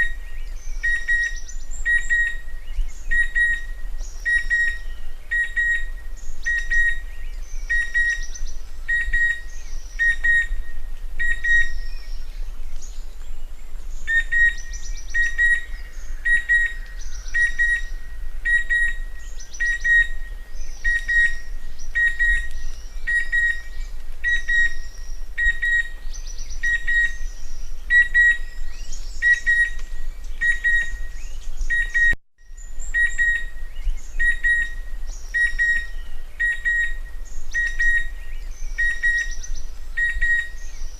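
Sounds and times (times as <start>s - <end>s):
cuckoo whistled calls: 0.0s - 40.9s
faint high bird chirps: 0.0s - 40.9s.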